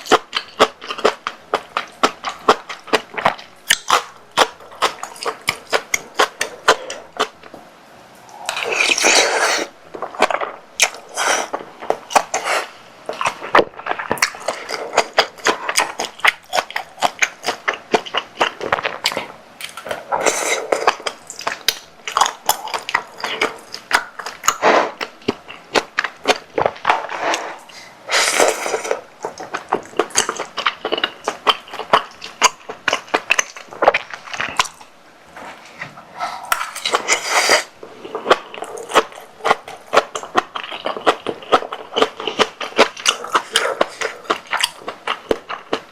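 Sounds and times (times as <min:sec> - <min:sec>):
chewing: 0:00.0 - 0:07.6, 0:08.3 - 0:34.9, 0:36.2 - 0:45.9.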